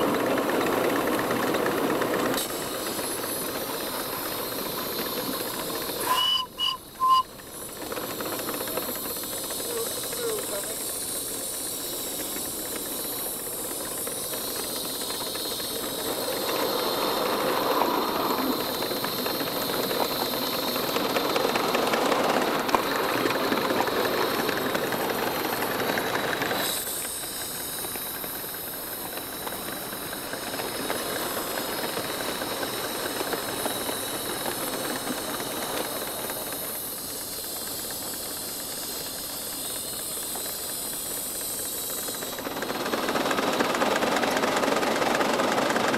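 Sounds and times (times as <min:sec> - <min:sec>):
steam hissing: 0:00.0 - 0:45.9
steam locomotive exhaust beats: 0:00.0 - 0:45.9.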